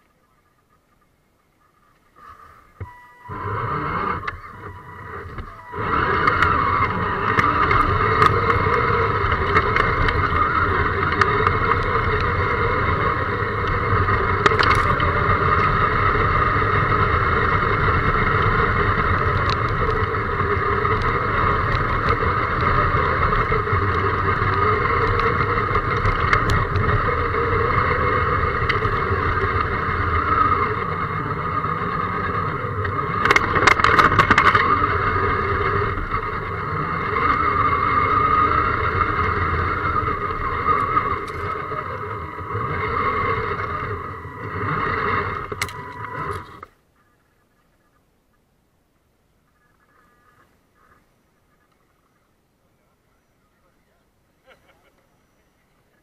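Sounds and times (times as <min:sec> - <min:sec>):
electric motor and gear whine: 0:00.0 - 0:47.4
ticks from chassis and tyres: 0:02.0 - 0:46.8.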